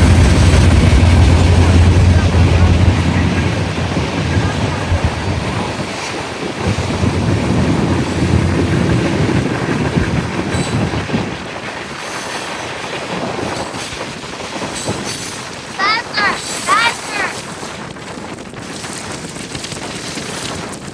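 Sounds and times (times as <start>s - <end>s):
freight train rumbling on rails: 0.0s - 18.9s.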